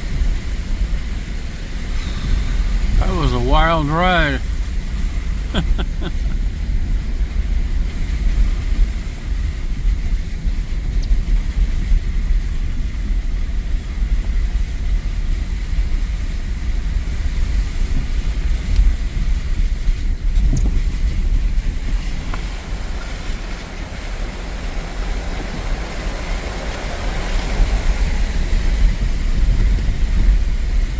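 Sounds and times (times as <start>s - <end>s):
truck rumble: 0.0s - 12.9s, 15.4s - 30.9s.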